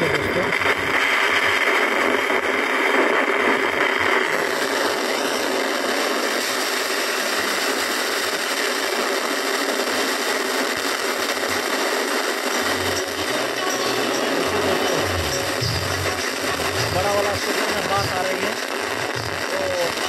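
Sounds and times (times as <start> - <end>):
speaker hissing: 0.0 - 20.0.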